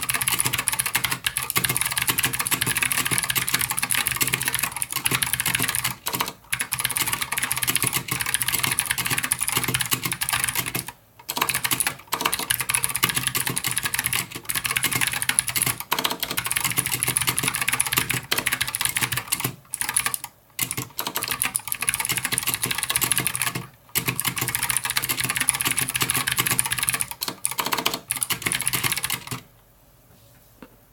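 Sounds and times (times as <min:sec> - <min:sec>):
mechanical keyboard typing: 0:00.0 - 0:29.5.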